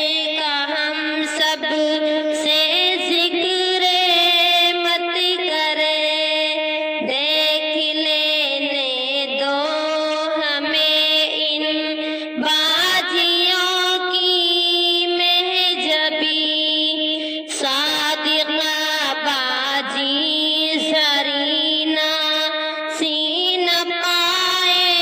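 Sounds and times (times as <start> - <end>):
woman singing devotional song: 0.0 - 25.0.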